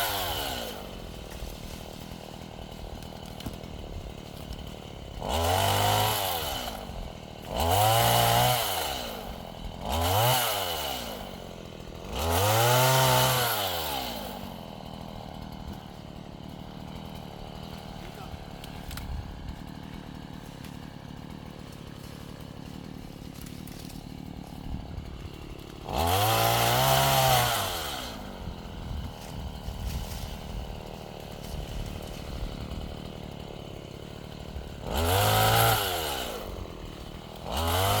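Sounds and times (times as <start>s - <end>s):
chainsaw engine idling and revving: 0.0s - 38.0s.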